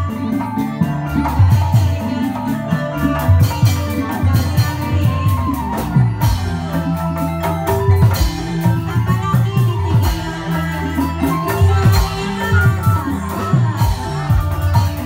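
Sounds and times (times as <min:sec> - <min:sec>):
drums keeping a steady beat: 0:00.0 - 0:15.0.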